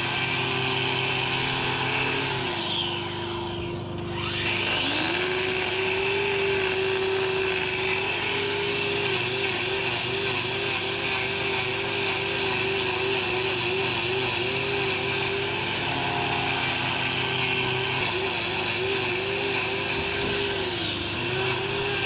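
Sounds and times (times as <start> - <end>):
angle grinder grinding hoof: 0.0 - 22.0.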